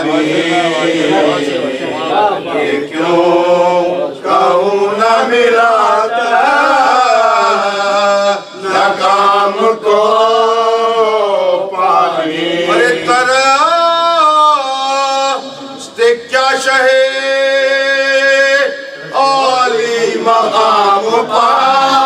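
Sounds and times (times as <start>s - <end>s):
man chanting mourning elegy: 0.0s - 9.8s, 10.4s - 22.0s.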